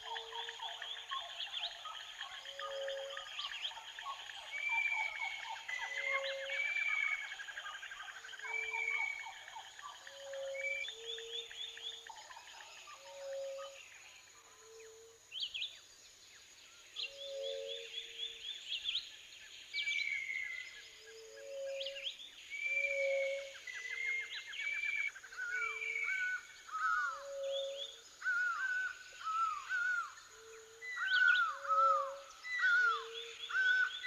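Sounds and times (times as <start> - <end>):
birds whistling and trilling: 0.0 - 13.8, 19.8 - 34.0.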